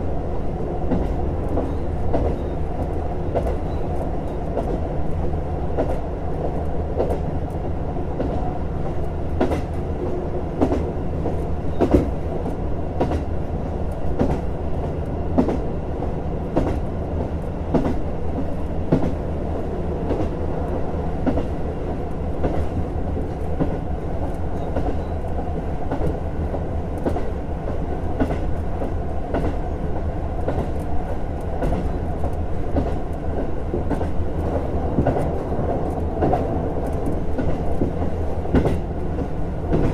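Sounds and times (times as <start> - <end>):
train wheels clicking on rails: 0.1 - 39.9.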